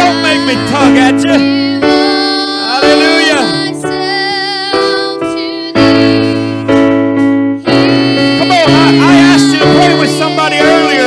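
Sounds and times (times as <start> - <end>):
person singing: 0.0 - 6.8, 7.6 - 11.0
keyboard playing held chords: 0.0 - 11.0.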